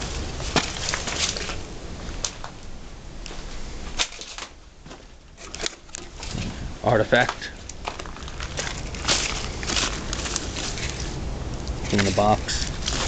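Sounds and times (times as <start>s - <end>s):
objects being handled: 0.0s - 1.6s, 3.4s - 6.6s, 7.2s - 13.0s.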